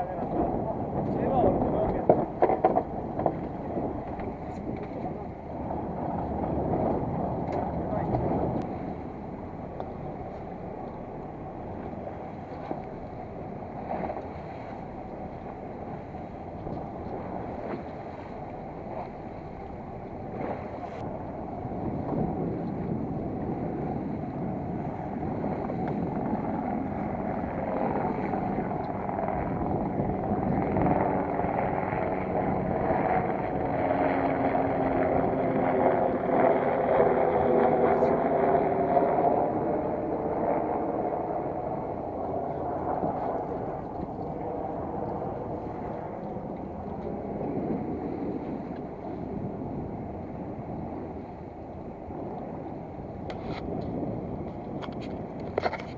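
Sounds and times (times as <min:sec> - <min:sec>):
boat engine running: 0:00.0 - 0:55.9
water noise: 0:00.0 - 0:55.9
wind: 0:00.0 - 0:55.9.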